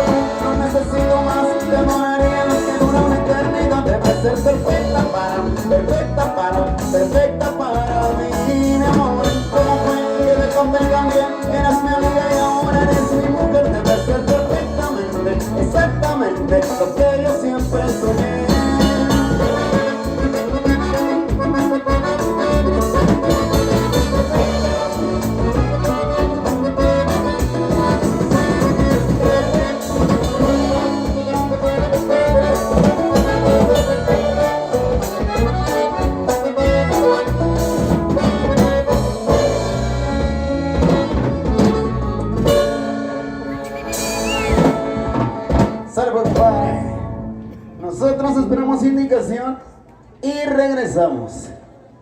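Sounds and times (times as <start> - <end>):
drums keeping a beat: 0.0 - 47.7
live band playing: 0.0 - 50.2.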